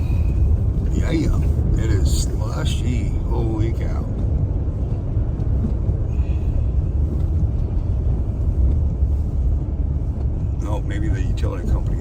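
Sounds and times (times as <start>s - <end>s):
tires driving through slush: 0.0s - 12.0s
vehicle rumble from inside cabin: 0.0s - 12.0s.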